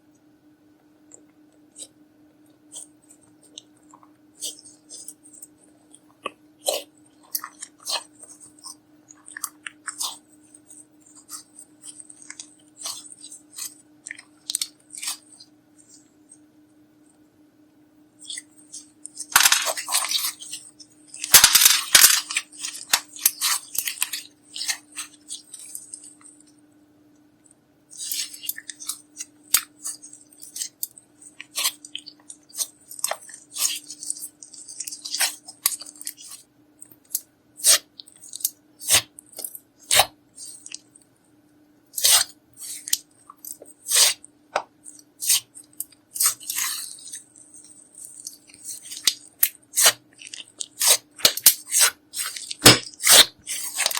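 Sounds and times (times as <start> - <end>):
slime squishing: 2.7 - 16.2, 18.2 - 26.6, 27.9 - 41.0, 41.9 - 53.9.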